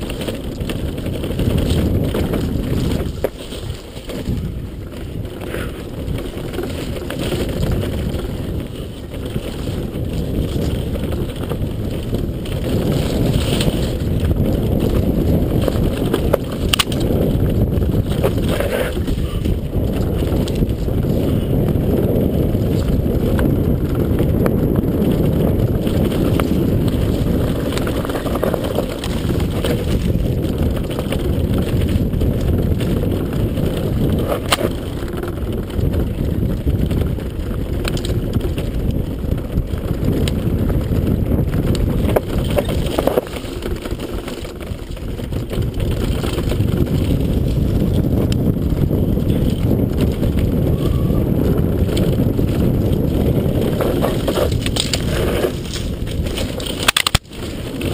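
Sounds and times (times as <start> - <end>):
tyres on rough ground: 0.0 - 57.9
wind buffeting microphone: 0.0 - 57.9.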